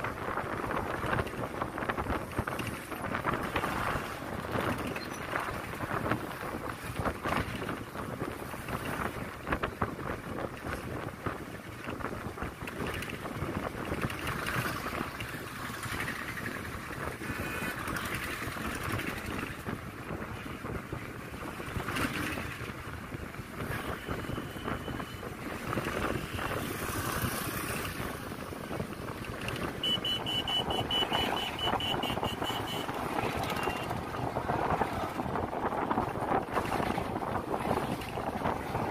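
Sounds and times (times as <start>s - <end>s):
vehicle road noise: 0.0s - 38.9s
wind rushing over microphone: 0.0s - 38.9s.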